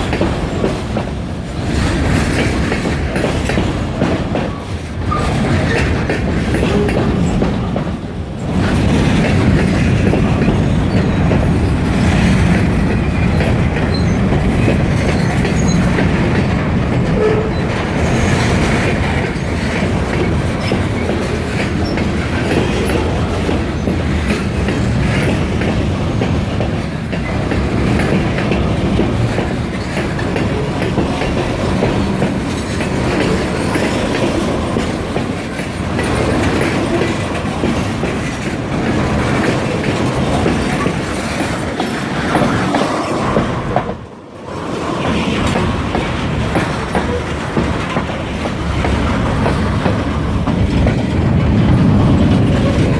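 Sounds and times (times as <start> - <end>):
freight train rumbling: 0.0 - 52.9
train wheels clacking on rail joints: 0.0 - 52.9.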